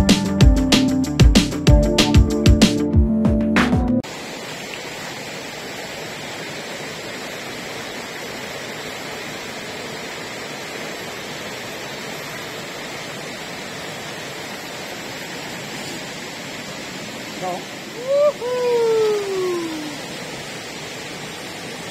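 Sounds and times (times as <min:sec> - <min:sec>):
river rushing over rocks: 0:04.0 - 0:21.9.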